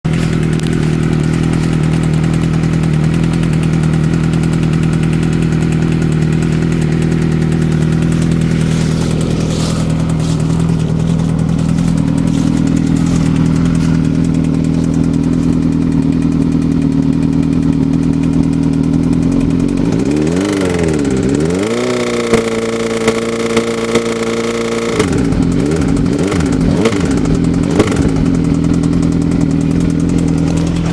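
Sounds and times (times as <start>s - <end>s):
engine idling and revving: 0.0s - 30.9s
engine ticking: 0.0s - 30.9s.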